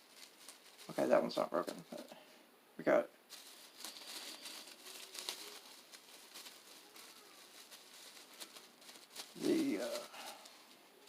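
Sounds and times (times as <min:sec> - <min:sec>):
plastic packaging crinkling: 0:00.0 - 0:02.1, 0:03.3 - 0:11.0.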